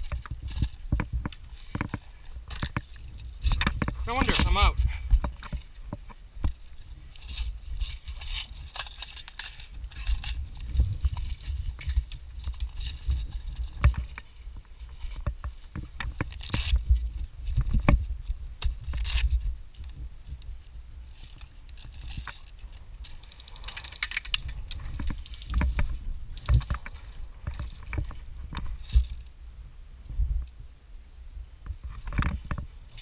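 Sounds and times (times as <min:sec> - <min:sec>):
gear and clothing rustling: 0:00.0 - 0:29.3.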